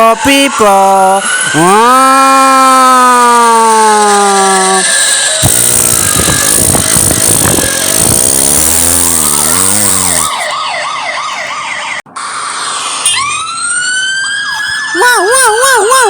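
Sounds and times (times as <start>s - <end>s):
cartoon siren wailing: 1.4s - 16.0s.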